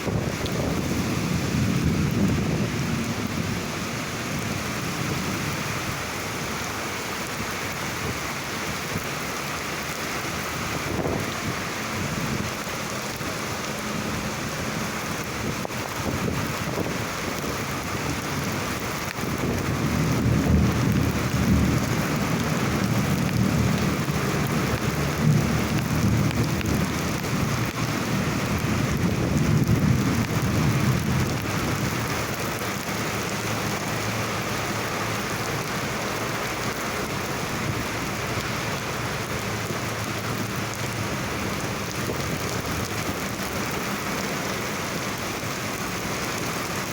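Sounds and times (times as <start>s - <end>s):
thunder rumbling: 0.0s - 6.0s, 13.9s - 46.9s
rain falling: 0.0s - 46.9s.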